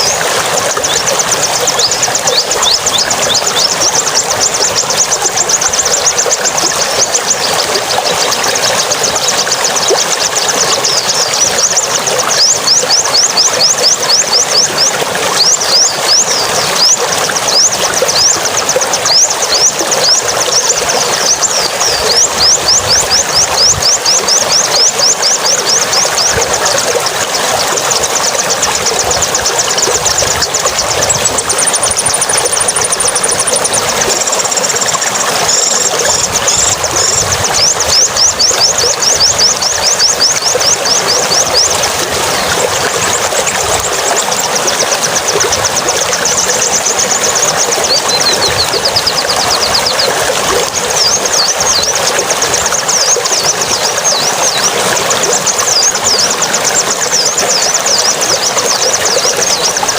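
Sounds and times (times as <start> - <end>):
high-pitched bird chirping: 0.0 - 59.9.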